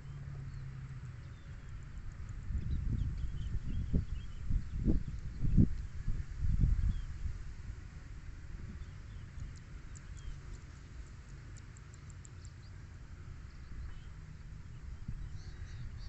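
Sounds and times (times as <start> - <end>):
small birds chirping: 0.0 - 7.2, 8.6 - 16.0
steady low rumble: 0.0 - 16.0.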